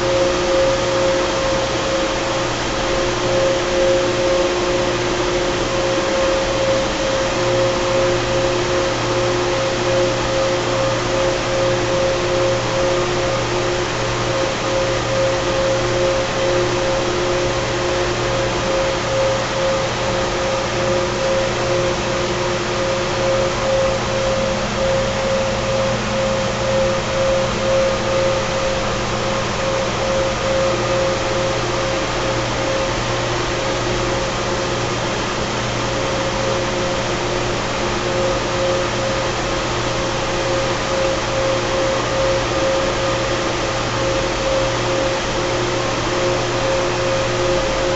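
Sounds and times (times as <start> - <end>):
water chiller mechanical hum: 0.0 - 47.9.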